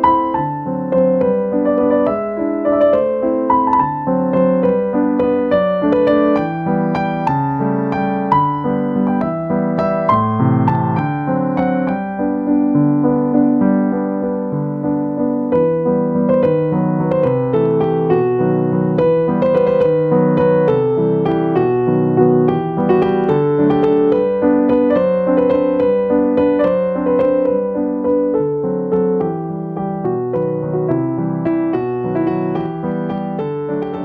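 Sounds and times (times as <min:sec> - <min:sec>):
gentle piano music: 0:00.0 - 0:34.0.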